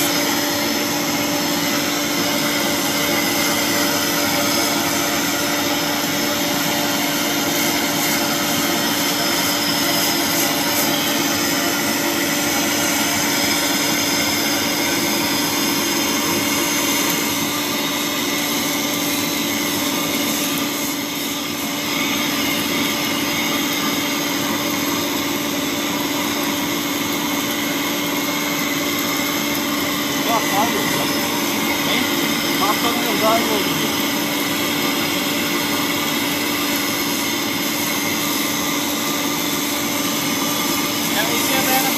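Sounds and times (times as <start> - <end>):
welding machine humming: 0.0 - 41.9.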